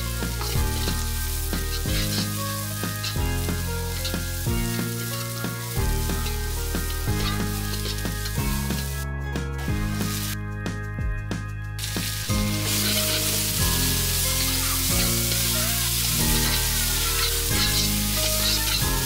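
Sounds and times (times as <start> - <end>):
onions and garlic sizzling in wok: 0.0 - 10.4, 11.8 - 19.0
background music: 0.0 - 19.0.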